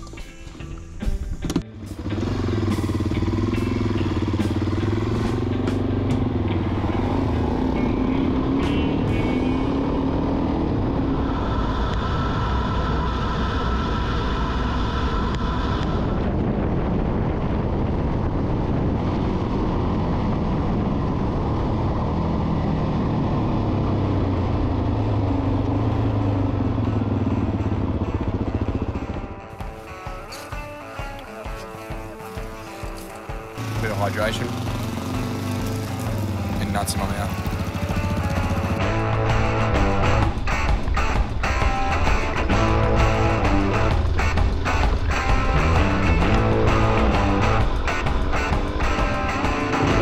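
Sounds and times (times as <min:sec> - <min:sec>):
motorcycle engine revving: 0:00.0 - 0:50.0
road and wind noise: 0:00.0 - 0:50.0.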